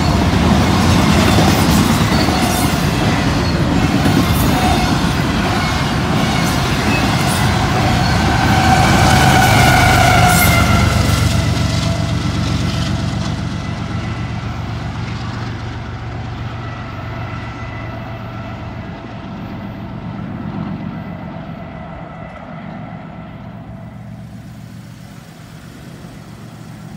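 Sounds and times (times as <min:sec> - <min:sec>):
freight train rumbling: 0:00.0 - 0:26.9.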